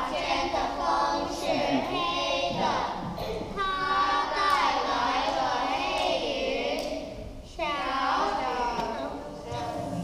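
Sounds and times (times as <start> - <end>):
children singing: 0.0 - 10.0.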